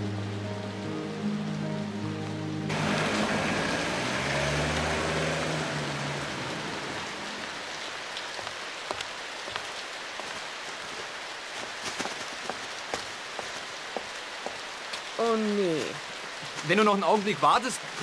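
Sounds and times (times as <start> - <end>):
heavy rain on pavement: 2.6 - 18.0.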